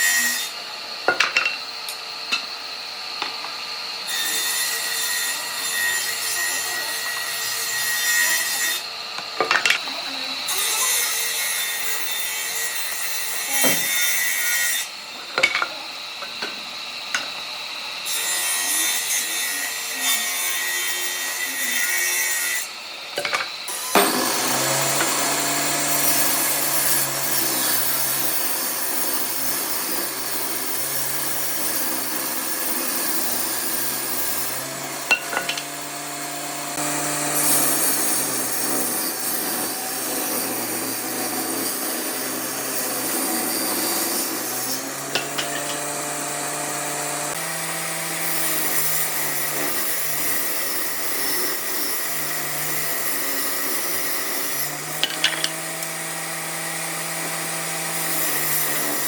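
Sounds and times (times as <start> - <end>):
power tool grinding wood: 0.0 - 59.0.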